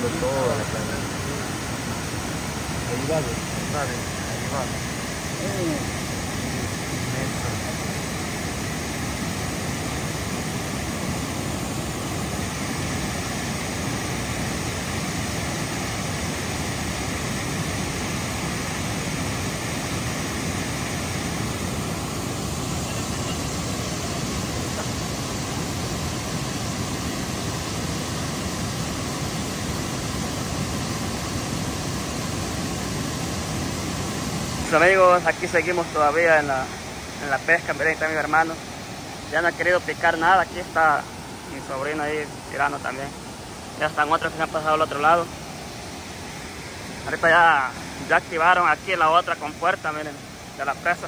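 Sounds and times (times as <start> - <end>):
water rushing through floodgates: 0.0 - 51.0.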